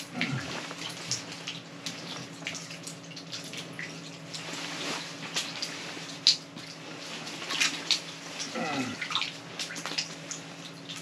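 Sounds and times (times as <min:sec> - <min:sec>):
steady low hum: 0:00.0 - 0:11.0
water dripping and splashing: 0:00.0 - 0:11.0.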